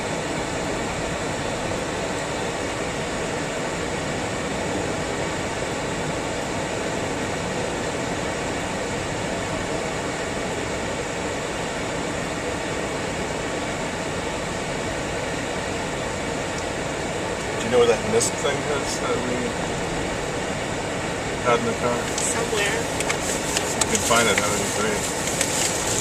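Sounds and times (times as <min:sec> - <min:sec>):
air conditioning running: 0:00.0 - 0:26.0
road and wind noise in car: 0:00.0 - 0:26.0.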